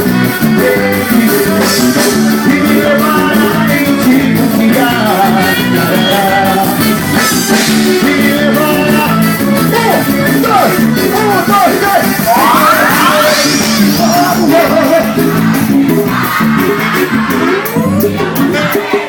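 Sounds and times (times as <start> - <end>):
live band playing upbeat music: 0.0 - 19.0
steady drum beat: 0.0 - 19.0.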